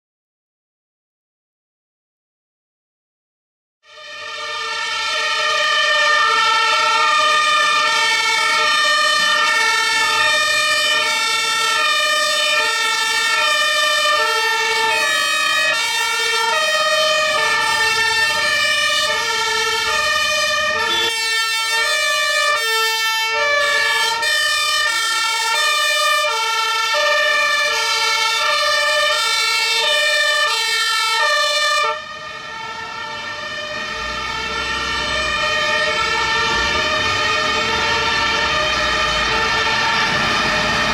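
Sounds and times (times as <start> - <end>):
two-tone emergency siren: 3.8 - 40.9.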